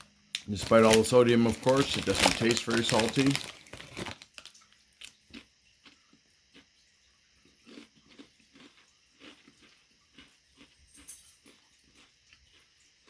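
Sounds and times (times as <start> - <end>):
person chewing crackers: 0.0 - 6.8, 7.4 - 13.0.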